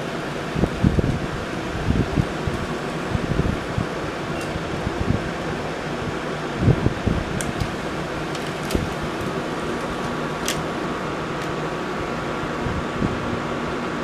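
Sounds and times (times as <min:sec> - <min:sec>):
fan-like hum: 0:00.0 - 0:14.0.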